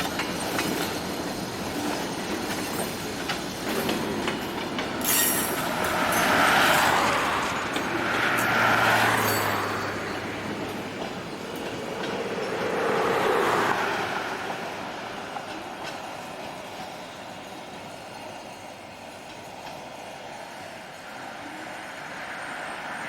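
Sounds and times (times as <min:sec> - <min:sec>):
freight train wheels on rails: 0:00.0 - 0:23.0.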